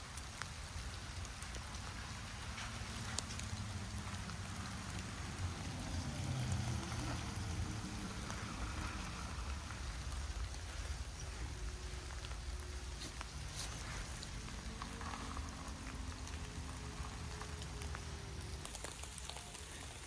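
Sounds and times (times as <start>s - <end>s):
light rain patter: 0.0s - 20.0s.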